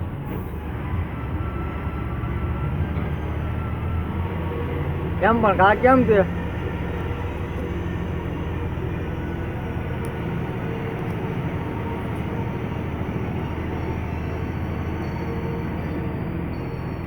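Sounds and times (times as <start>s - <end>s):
road and tyre noise: 0.0s - 17.0s
truck diesel engine droning: 0.0s - 17.0s.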